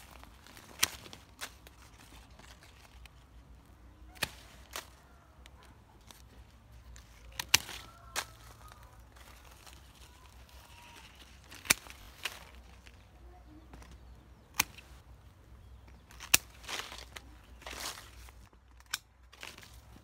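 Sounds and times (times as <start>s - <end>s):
pruning shears snipping twigs: 0.0s - 15.0s, 15.8s - 20.0s
leaves rustling: 0.0s - 20.0s.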